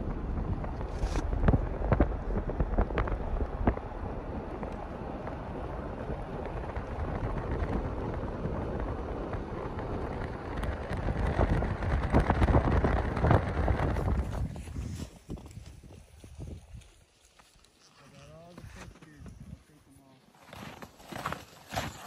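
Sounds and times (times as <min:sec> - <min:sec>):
wind buffeting microphone: 0:00.0 - 0:17.1, 0:19.1 - 0:19.7.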